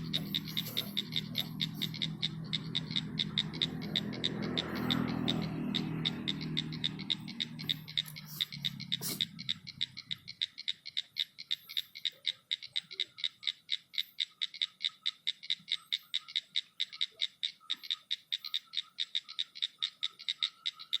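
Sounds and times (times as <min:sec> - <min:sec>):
animal rapid high clicking: 0:00.0 - 0:21.0.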